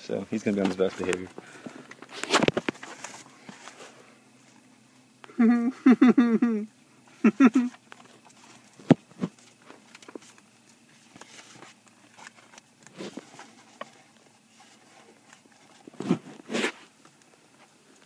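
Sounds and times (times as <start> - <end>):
rustling: 0.1 - 5.5, 7.0 - 18.0.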